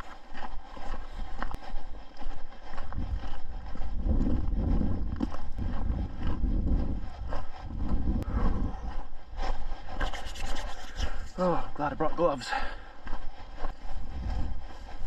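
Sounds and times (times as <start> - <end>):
footsteps on trail: 0.0 - 15.0
wind buffeting microphone: 0.0 - 15.0.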